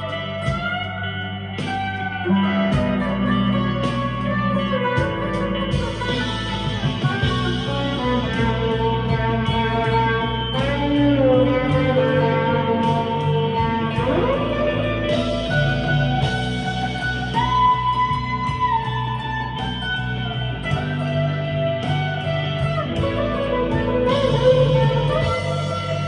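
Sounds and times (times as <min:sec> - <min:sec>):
overdriven electric guitar notes: 0:00.0 - 0:26.0.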